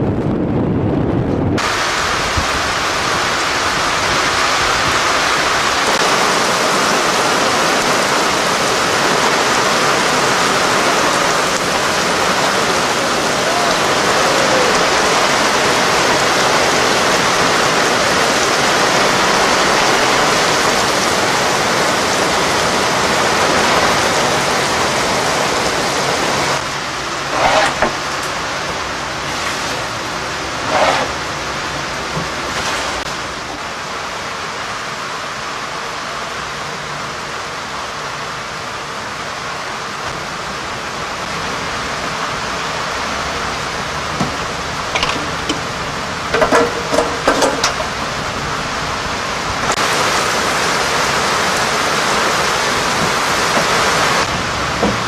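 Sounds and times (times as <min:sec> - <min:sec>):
heavy rain on water and boat: 0:00.0 - 0:55.0.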